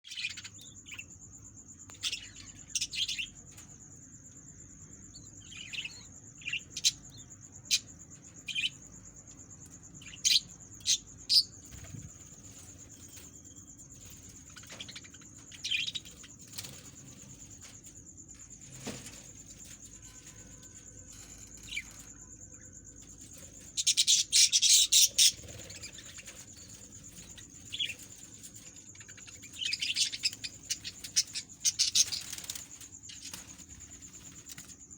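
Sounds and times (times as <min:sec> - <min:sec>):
parrot chicks chirping: 0:00.1 - 0:01.1, 0:01.9 - 0:03.7, 0:05.1 - 0:34.7
faint high-pitched whine: 0:00.1 - 0:34.9.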